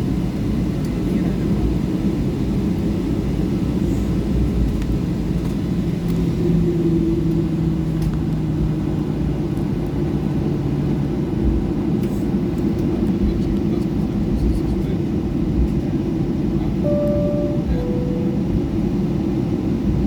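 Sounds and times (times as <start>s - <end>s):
airplane engines at low power: 0.0s - 20.0s.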